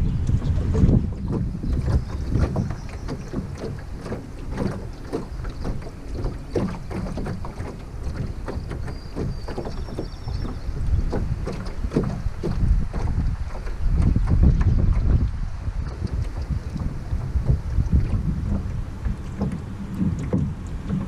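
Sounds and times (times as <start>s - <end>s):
waves slapping against a boat hull: 0.0s - 21.0s
wind buffeting the microphone: 0.0s - 21.0s.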